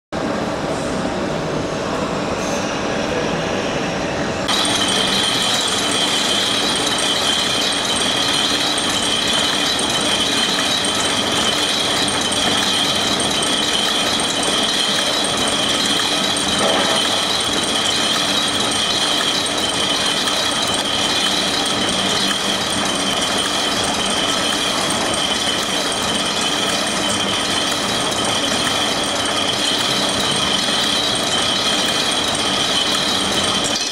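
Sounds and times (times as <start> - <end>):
folding and gluing machine running: 4.4 - 33.9.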